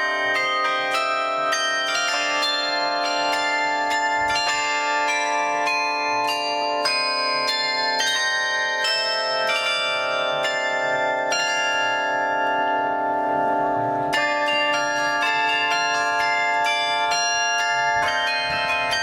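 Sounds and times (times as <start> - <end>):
carillon bells ringing: 0.0 - 19.0.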